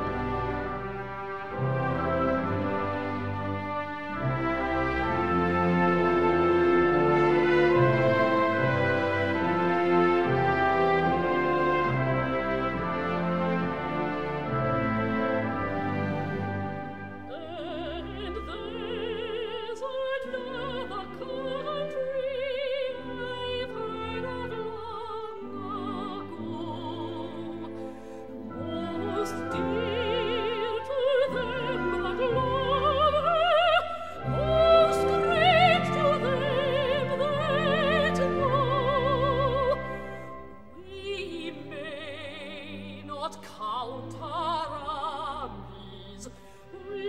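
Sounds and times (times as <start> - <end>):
operatic singing with vibrato: 0.0 - 47.0
orchestra playing: 0.0 - 47.0.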